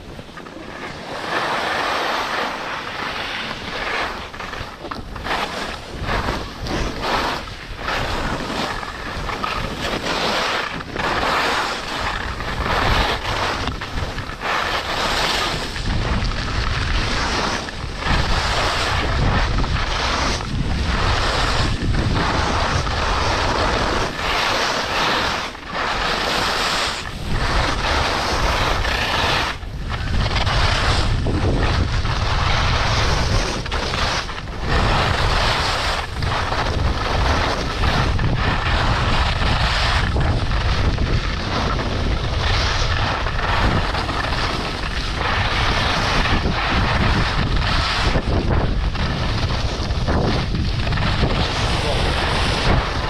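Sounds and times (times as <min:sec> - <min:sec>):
skis scraping on snow: 0:00.0 - 0:53.0
wind buffeting microphone: 0:00.0 - 0:53.0.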